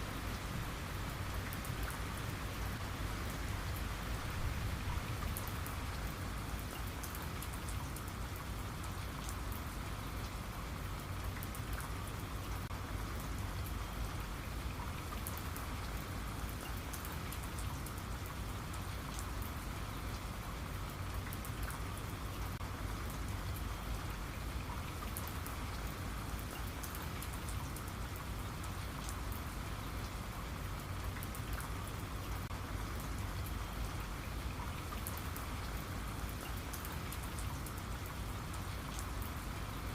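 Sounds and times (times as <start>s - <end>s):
raindrops pattering on a surface: 0.0s - 39.9s
steady rain: 0.0s - 39.9s.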